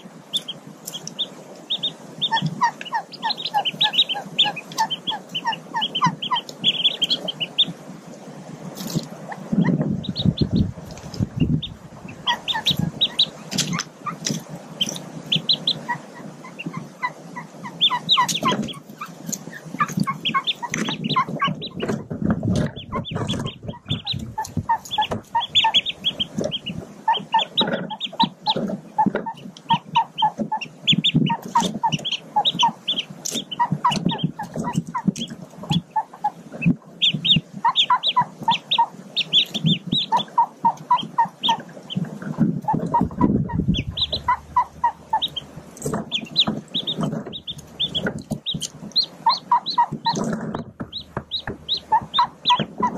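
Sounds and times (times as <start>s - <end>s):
duck hen clucking softly: 0.0s - 7.8s, 8.8s - 52.9s
ducklings peeping: 0.0s - 52.9s.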